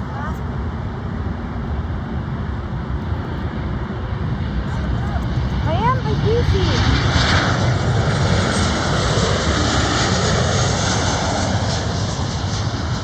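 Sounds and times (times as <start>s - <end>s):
airplane passing low: 0.0s - 13.0s.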